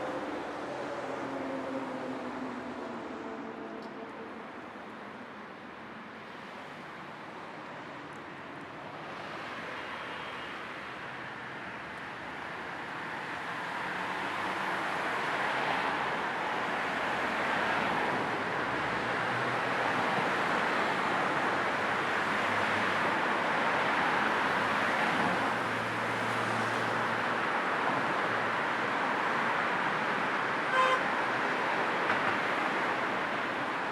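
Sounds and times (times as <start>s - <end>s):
tyres on road: 0.0s - 33.9s.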